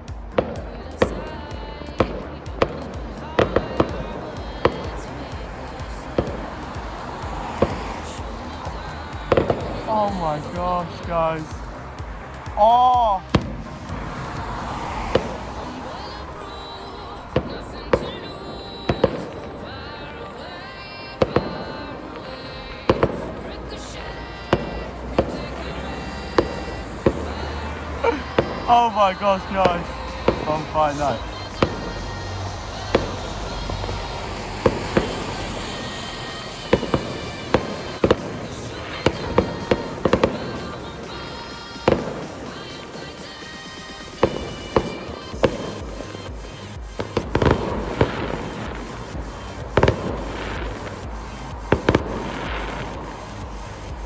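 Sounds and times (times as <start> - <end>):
fireworks bangs: 0.0 - 54.0
music playing: 0.0 - 54.0
outdoor background noise: 0.0 - 54.0.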